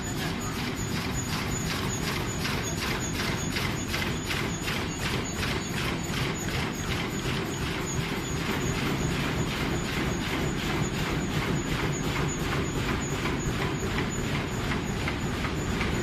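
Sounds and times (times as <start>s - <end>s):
pouch making machine cycling: 0.0s - 16.0s.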